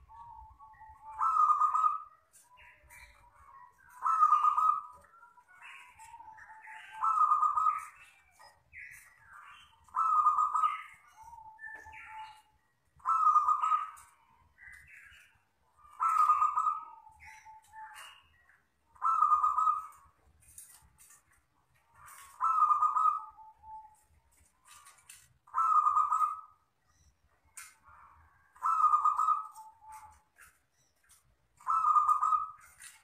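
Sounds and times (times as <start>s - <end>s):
dove cooing: 0.0s - 20.2s, 21.8s - 27.1s, 27.8s - 33.0s
softer bird calls: 0.0s - 33.0s.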